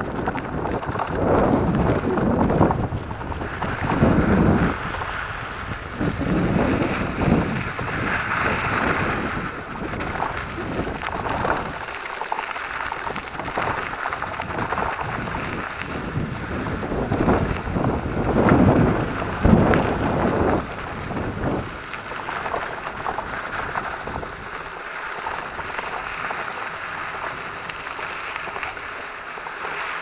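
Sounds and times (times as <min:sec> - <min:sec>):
tyres rolling over gravel: 0:00.0 - 0:30.0
wind buffeting microphone: 0:00.0 - 0:30.0.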